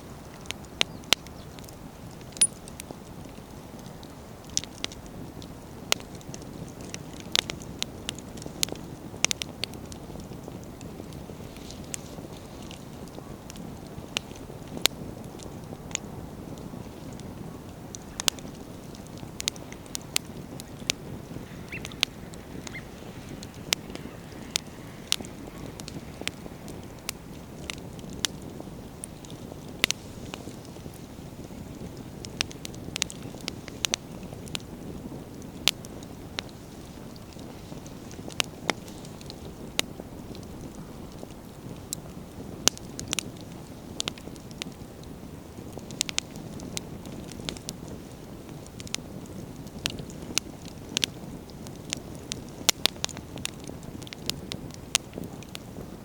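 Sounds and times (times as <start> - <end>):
campfire logs crackling: 0.0 - 56.0.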